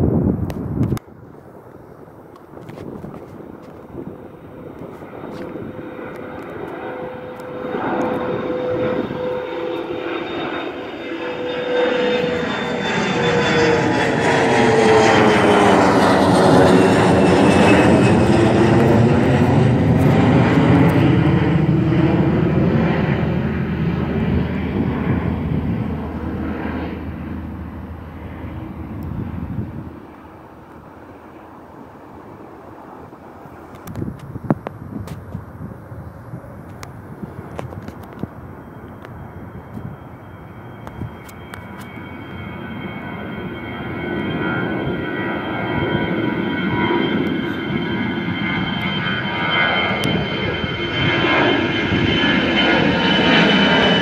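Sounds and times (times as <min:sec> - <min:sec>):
airliner engines passing by: 0:00.0 - 0:54.0.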